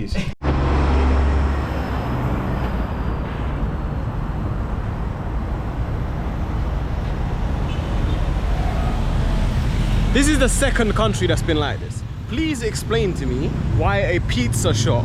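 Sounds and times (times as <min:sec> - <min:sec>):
street traffic rumble: 0:00.4 - 0:15.0.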